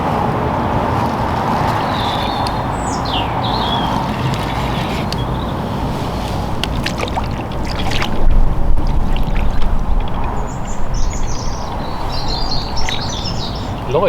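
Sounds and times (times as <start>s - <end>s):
birds chirping: 0.0s - 14.0s
wind rumble on microphone: 0.0s - 14.0s
fish splashing in water: 0.6s - 14.0s.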